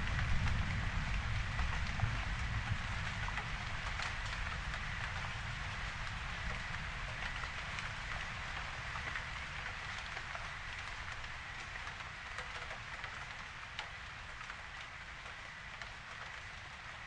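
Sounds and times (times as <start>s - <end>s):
raindrops ticking: 0.0s - 17.0s
steady rain hiss: 0.0s - 17.0s.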